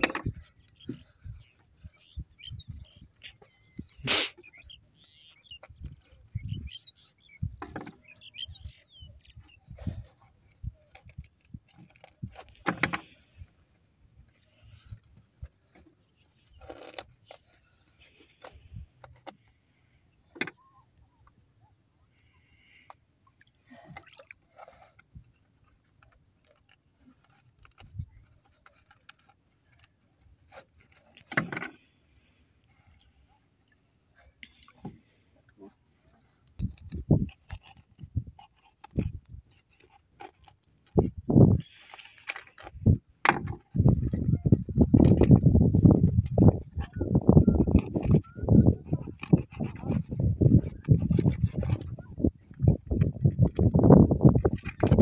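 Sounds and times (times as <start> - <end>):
hands scraping and rustling: 0.0 - 20.8, 23.8 - 33.6, 34.2 - 55.0.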